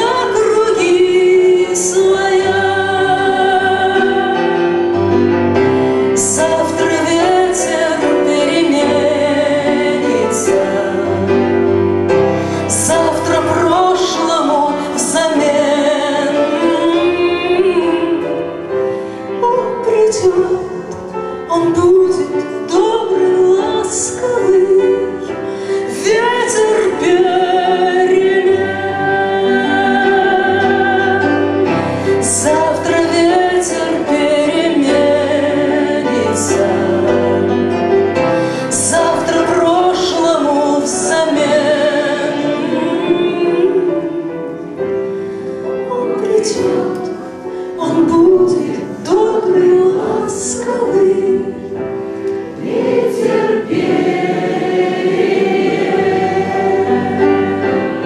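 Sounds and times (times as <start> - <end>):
woman singing a ballad: 0.0 - 4.6, 6.1 - 11.5, 12.5 - 18.6, 19.2 - 37.7, 38.4 - 44.4, 45.8 - 51.8
instrumental accompaniment: 0.0 - 58.0.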